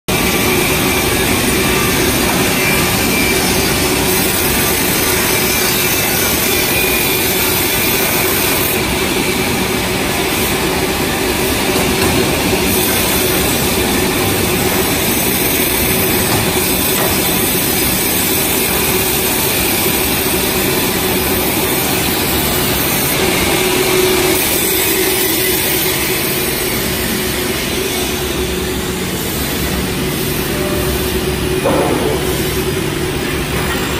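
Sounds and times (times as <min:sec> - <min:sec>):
circular saw drone: 0:00.1 - 0:33.9.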